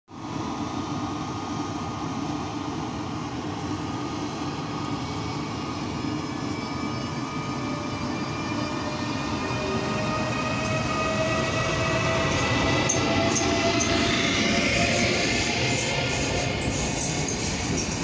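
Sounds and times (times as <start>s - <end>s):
electric locomotive whine: 0.1s - 18.0s
locomotive running hum: 0.3s - 18.0s.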